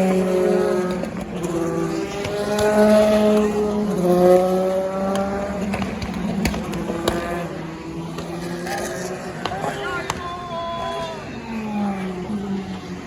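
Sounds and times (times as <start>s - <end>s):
race car engine accelerating: 0.0s - 10.2s, 10.8s - 13.0s.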